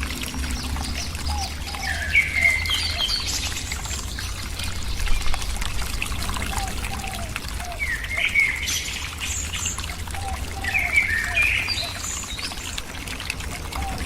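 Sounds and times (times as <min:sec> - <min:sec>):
birds chirping: 0:00.4 - 0:05.6, 0:06.5 - 0:13.0.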